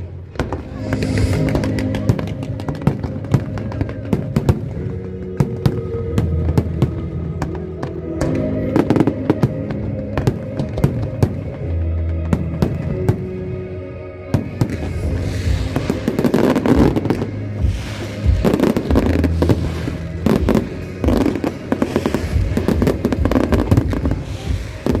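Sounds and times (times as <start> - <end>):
fireworks bursting: 0.0 - 13.5, 14.3 - 25.0
music playing: 0.0 - 25.0.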